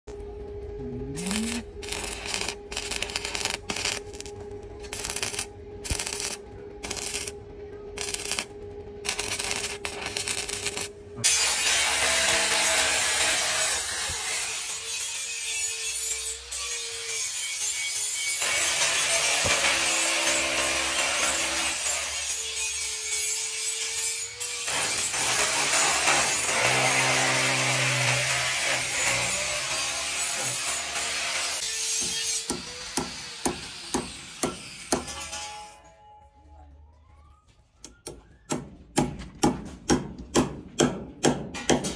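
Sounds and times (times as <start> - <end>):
welding arc crackling: 1.0 - 7.4, 8.0 - 35.6.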